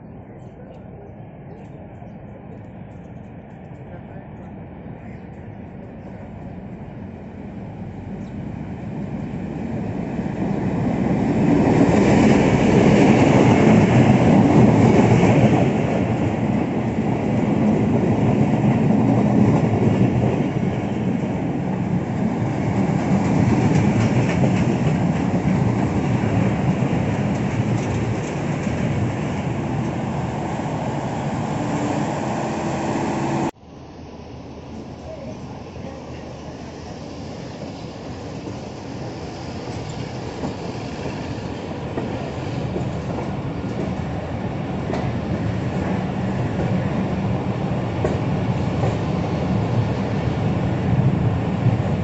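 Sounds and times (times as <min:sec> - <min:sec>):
diesel locomotive engine: 0:00.0 - 0:52.0
train coaches rumbling past: 0:00.0 - 0:52.0.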